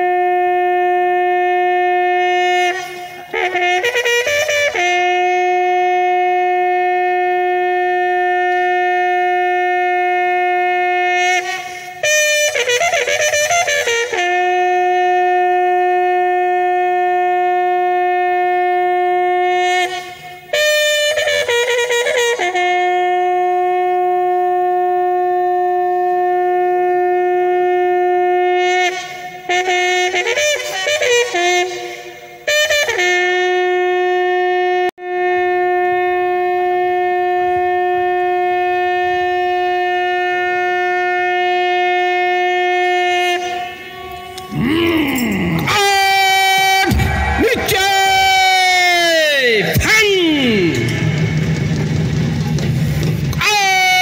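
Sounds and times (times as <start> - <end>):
wind instrument long notes: 0.0 - 54.0.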